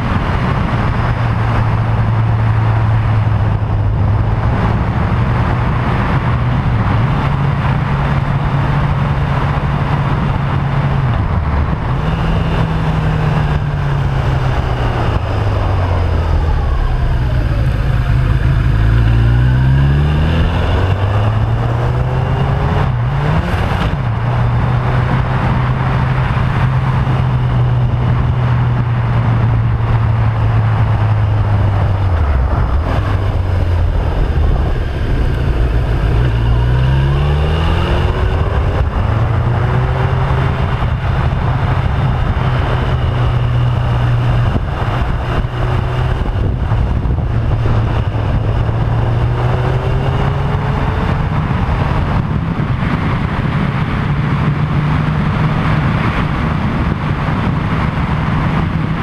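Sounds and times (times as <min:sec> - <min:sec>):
motorcycle engine: 0:00.0 - 0:59.0
wind rush on microphone: 0:00.0 - 0:59.0.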